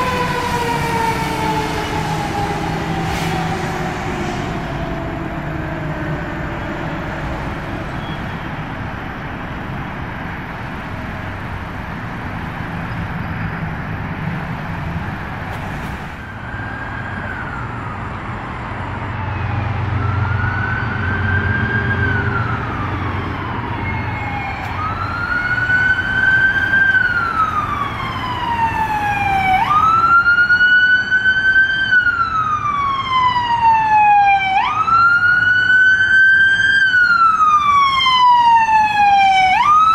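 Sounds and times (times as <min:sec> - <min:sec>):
emergency vehicle siren wailing: 0:00.0 - 0:39.9
fire truck engine rumbling: 0:00.0 - 0:39.9.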